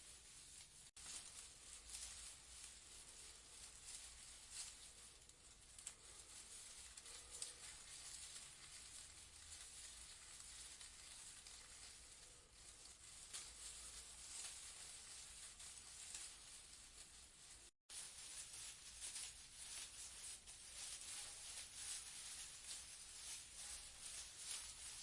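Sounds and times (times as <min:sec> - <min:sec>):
leaves rustling in breeze: 0:00.0 - 0:25.0.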